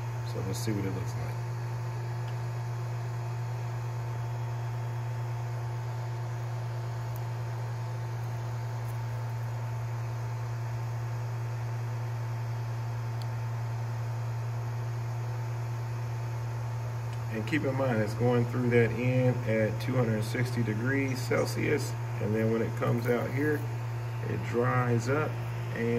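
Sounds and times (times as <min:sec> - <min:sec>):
faint steady whine: 0:00.0 - 0:25.9
fan hiss: 0:00.0 - 0:25.9
three d printer humming: 0:00.0 - 0:25.9.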